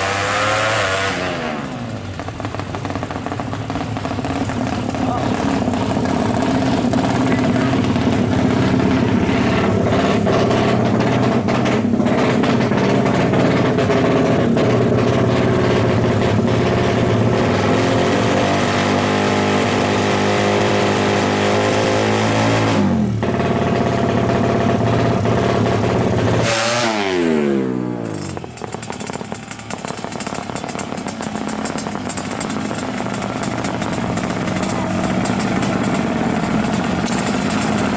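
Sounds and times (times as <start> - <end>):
two-stroke motorcycle engine revving: 0.0 - 37.9.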